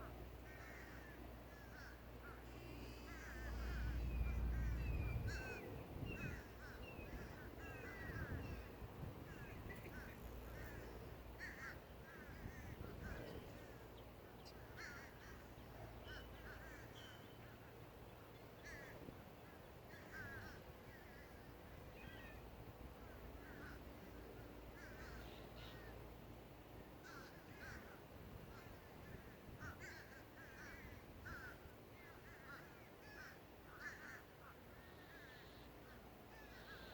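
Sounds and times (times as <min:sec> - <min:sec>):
distant crows cawing: 0:00.0 - 0:17.7, 0:18.6 - 0:26.1, 0:27.0 - 0:36.9.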